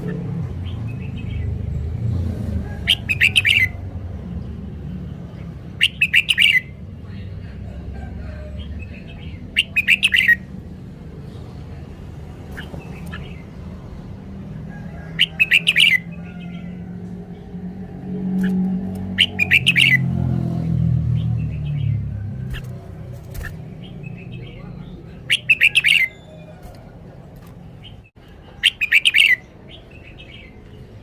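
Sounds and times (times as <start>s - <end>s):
bird singing chirping phrases: 0.0s - 2.0s, 2.8s - 7.4s, 8.3s - 14.4s, 15.0s - 31.0s.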